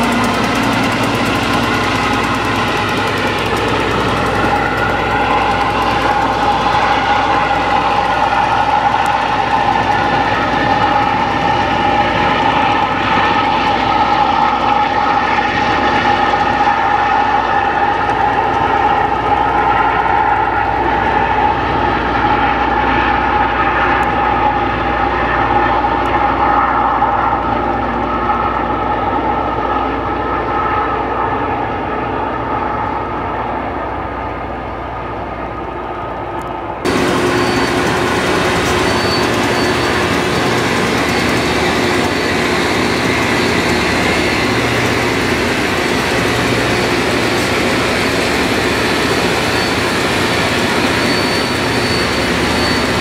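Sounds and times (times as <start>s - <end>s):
locomotive rumble: 0.0s - 53.0s
rail grinding with high whine: 0.0s - 53.0s.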